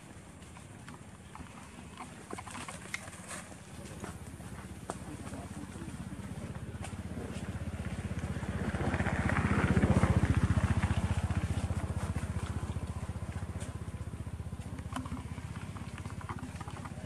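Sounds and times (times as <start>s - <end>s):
engine chugging: 0.0s - 17.0s.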